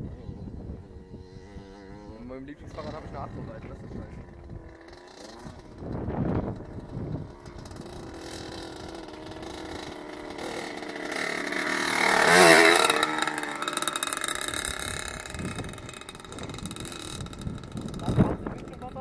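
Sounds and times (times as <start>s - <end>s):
motocross bike engine passing: 0.0s - 19.0s.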